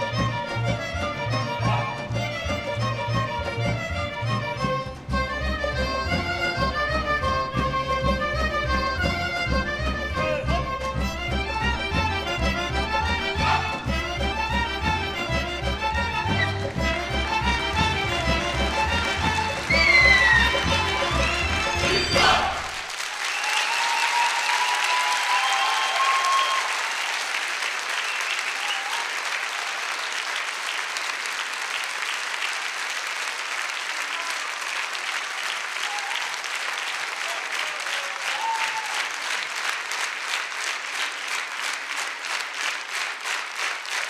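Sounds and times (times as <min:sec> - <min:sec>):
audience applauding: 0:00.0 - 0:44.0
rhythmic clapping in unison: 0:00.0 - 0:44.0.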